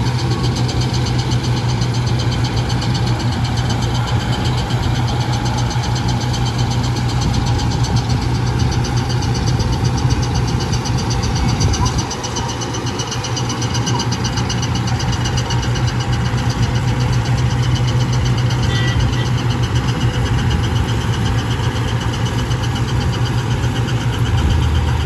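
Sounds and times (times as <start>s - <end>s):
reaper machine rattling: 0.0s - 25.0s
tractor diesel engine running: 0.0s - 25.0s.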